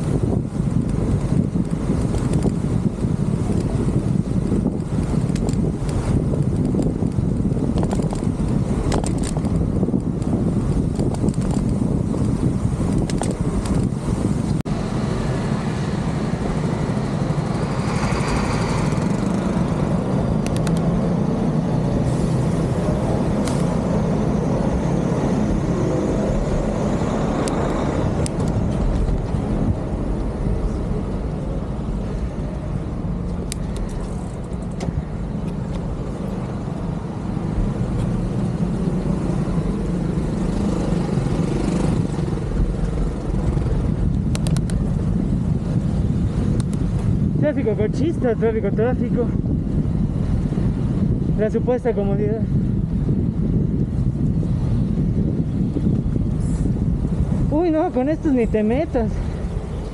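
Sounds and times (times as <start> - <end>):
traffic on a wet road: 0.0 - 59.9.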